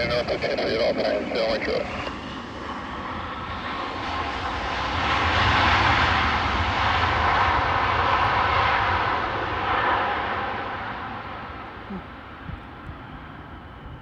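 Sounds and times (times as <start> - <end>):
jet airliner passing: 0.0 - 14.0.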